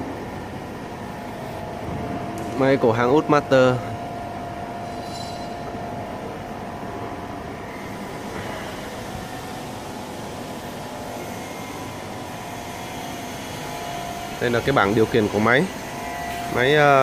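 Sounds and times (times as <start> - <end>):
machinery hum and hiss: 0.0 - 17.0.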